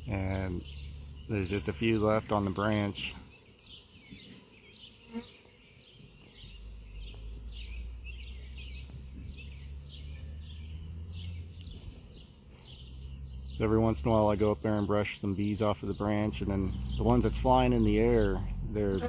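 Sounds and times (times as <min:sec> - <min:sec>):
bees buzzing: 0:00.0 - 0:14.5, 0:15.2 - 0:19.0.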